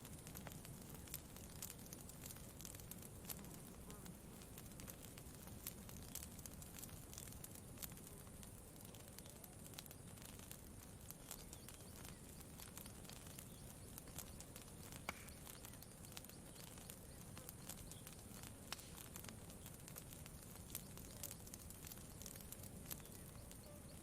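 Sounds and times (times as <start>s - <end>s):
faint campfire crackling: 0.0s - 24.0s.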